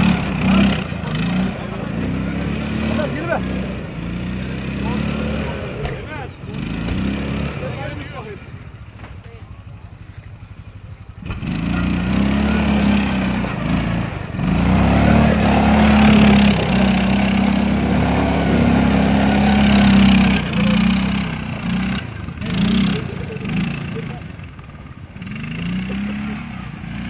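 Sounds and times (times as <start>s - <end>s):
quad bike engine revving: 0.0s - 9.2s, 10.7s - 27.0s.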